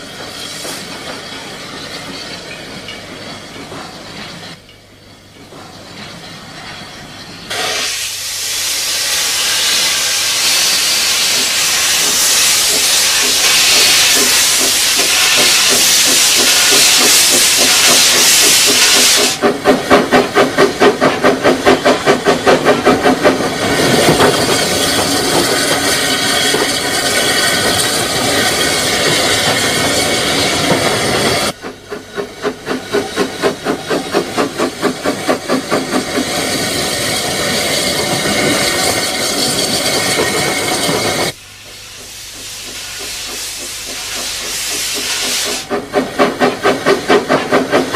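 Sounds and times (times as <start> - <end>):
steam locomotive hissing steam: 0.0 - 3.4, 7.0 - 47.9
steam locomotive exhaust beats: 0.0 - 47.9.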